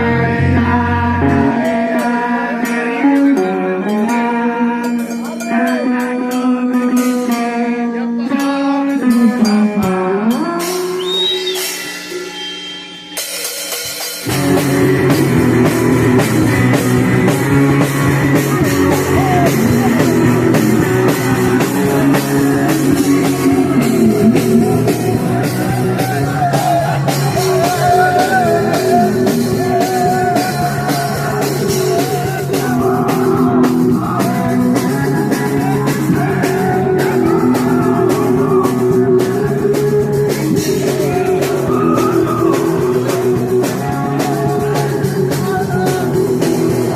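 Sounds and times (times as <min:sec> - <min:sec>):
punk rock band playing: 0:00.0 - 0:46.9.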